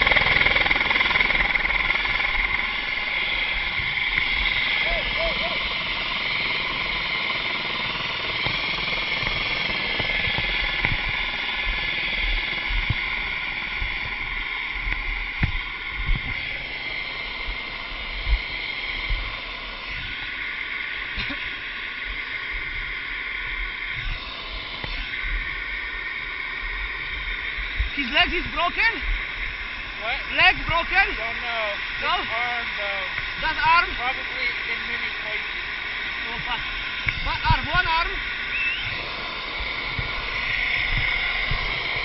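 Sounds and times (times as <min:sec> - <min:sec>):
helicopter turbine and rotor: 0:00.0 - 0:42.0.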